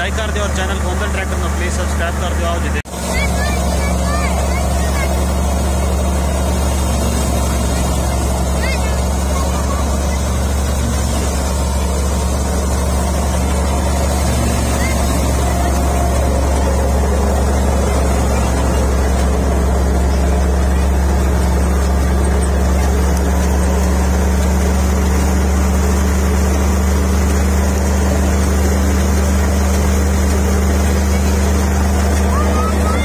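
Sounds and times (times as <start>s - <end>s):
tractor and thresher drone: 0.0s - 33.0s.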